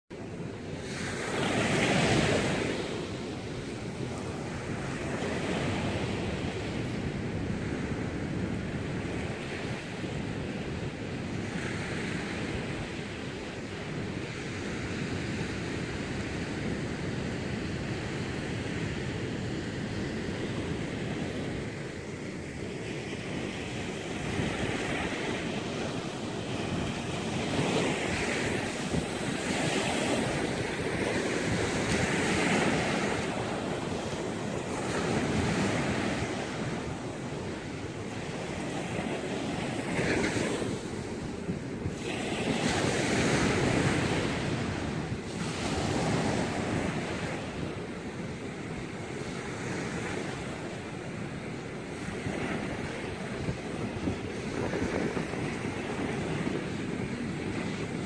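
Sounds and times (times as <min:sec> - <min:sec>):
ocean waves breaking: 0:00.1 - 0:58.0.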